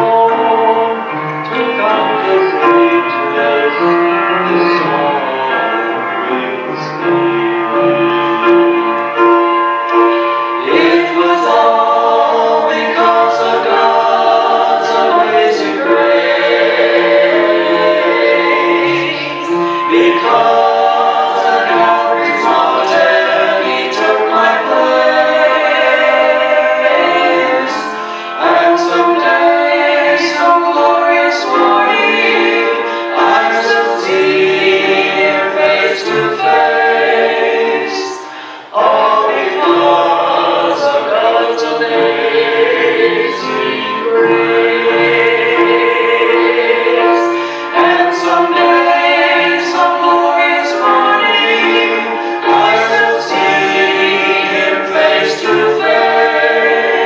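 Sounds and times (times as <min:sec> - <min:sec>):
choir singing gospel in harmony: 0:00.0 - 0:57.0.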